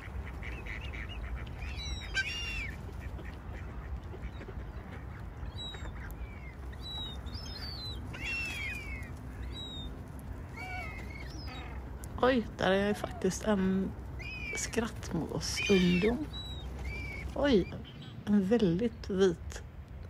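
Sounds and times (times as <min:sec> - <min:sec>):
waterbirds calling: 0:00.0 - 0:19.8
steady low rumble: 0:00.0 - 0:20.0.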